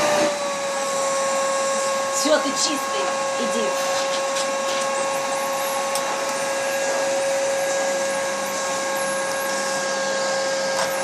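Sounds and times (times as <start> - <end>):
vacuum cleaner whining: 0.0 - 11.0.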